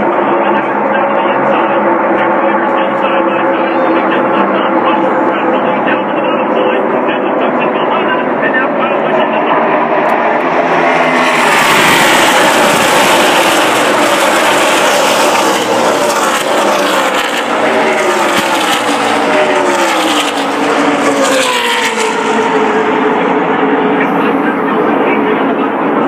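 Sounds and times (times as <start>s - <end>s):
racing trucks passing at full throttle: 0.0s - 26.0s.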